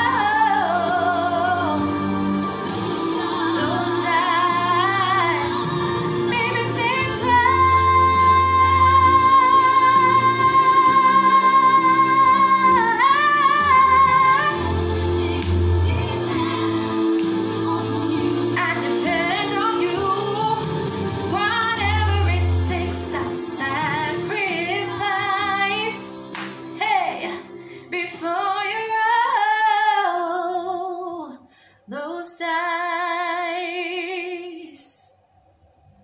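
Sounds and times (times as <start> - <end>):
backing music: 0.0 - 29.0
woman singing: 0.0 - 35.1.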